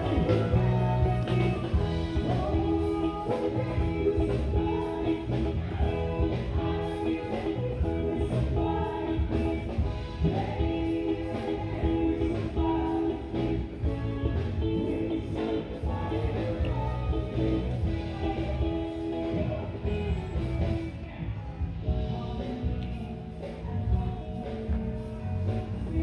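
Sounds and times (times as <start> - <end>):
song with singing voice: 0.0 - 26.0.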